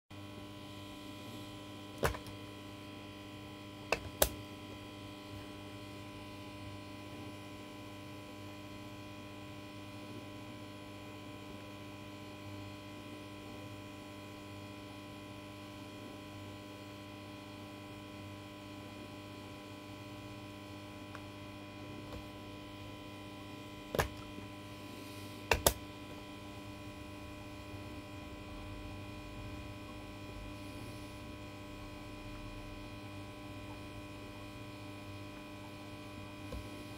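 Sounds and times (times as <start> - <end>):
electrical mains hum: 0.1 - 36.9.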